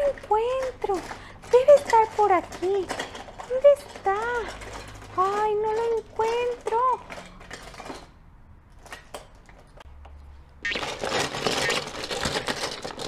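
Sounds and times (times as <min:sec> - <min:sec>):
rustling and clattering: 0:00.0 - 0:13.0
toys clicking and knocking: 0:00.0 - 0:13.0.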